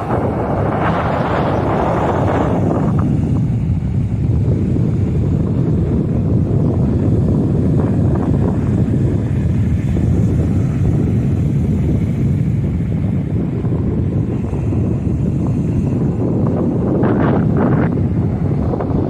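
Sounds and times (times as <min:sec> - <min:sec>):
rough sea surf washing in: 0:00.0 - 0:19.0
wind buffeting microphone: 0:00.0 - 0:19.0.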